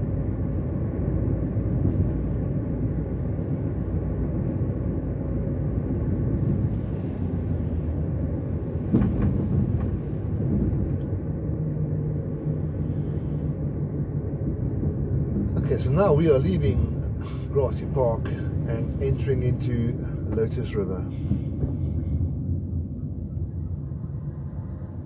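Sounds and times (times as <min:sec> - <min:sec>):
car interior road and engine rumble: 0:00.0 - 0:25.0.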